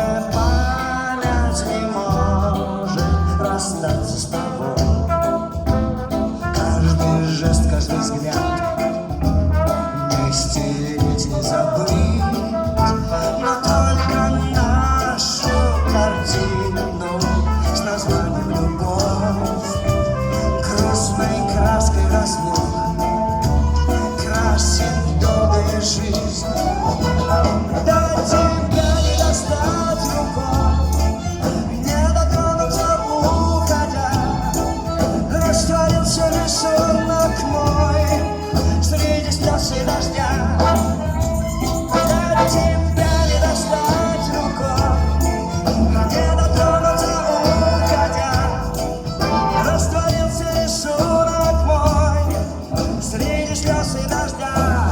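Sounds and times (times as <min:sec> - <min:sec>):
held bass notes: 0:00.0 - 0:54.9
live band playing: 0:00.0 - 0:54.9
person singing: 0:00.0 - 0:54.9.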